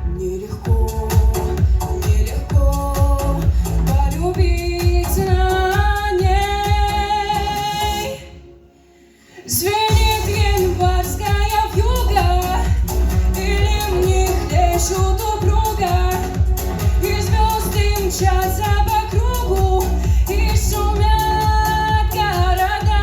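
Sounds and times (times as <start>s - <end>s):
backing track with steady beat: 0.0s - 8.2s, 9.8s - 23.0s
woman singing: 0.0s - 8.5s, 9.4s - 23.0s.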